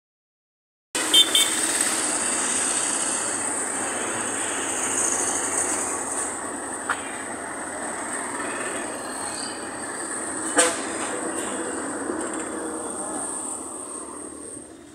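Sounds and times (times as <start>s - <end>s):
roadside traffic: 1.0s - 14.9s.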